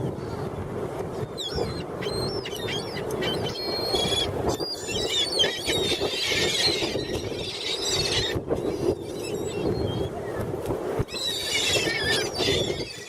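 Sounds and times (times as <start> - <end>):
seagulls calling: 1.2 - 10.4, 11.1 - 13.0.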